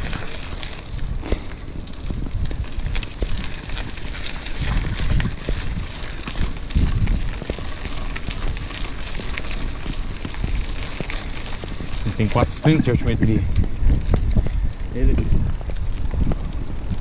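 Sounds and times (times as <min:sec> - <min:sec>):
crackles and clicks: 0:00.0 - 0:17.0
wind buffeting microphone: 0:00.0 - 0:17.0.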